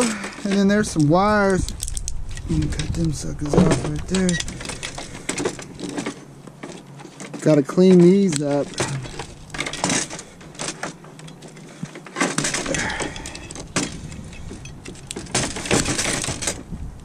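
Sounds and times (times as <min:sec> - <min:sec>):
plastic and metal parts rattling: 0:00.0 - 0:16.8.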